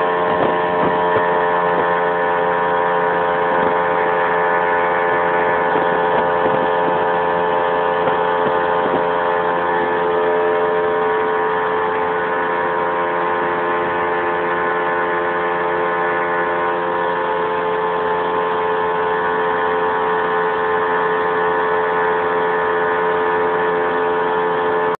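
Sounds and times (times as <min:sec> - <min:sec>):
water and wind rushing: 0:00.0 - 0:24.9
outboard motor at full throttle: 0:00.0 - 0:25.0.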